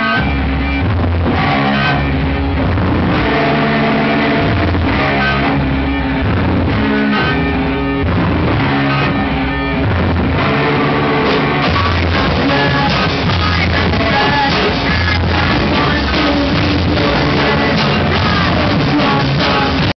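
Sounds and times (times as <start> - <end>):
loud live rock band: 0.0 - 20.0
low bass notes: 0.0 - 20.0
person singing: 2.9 - 20.0.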